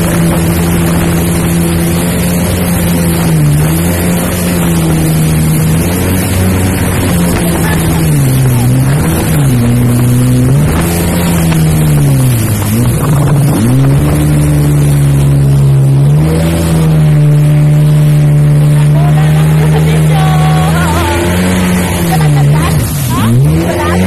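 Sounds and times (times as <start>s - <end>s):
jet ski engine: 0.0s - 24.0s
rushing water: 0.0s - 24.0s
wind: 0.0s - 24.0s.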